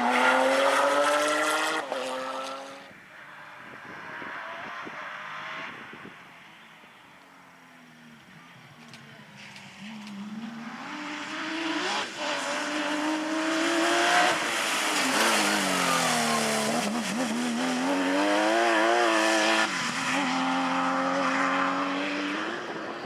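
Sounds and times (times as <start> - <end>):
rally car engine revving: 0.0 - 6.2, 9.4 - 23.0.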